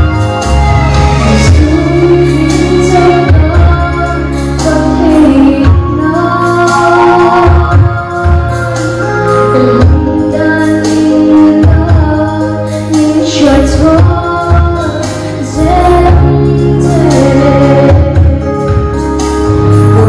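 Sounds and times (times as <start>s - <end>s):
instrumental accompaniment with bass: 0.0s - 20.0s
woman singing into a microphone: 1.0s - 20.0s.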